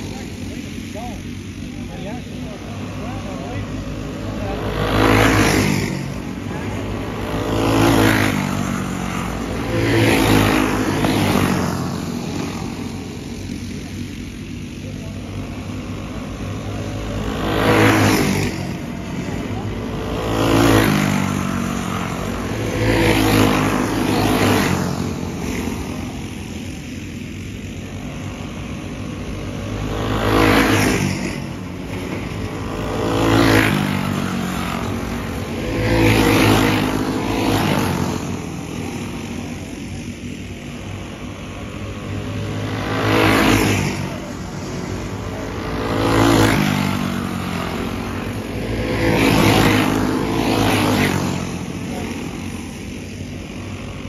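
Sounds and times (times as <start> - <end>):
go-kart engines passing by: 0.0 - 54.0.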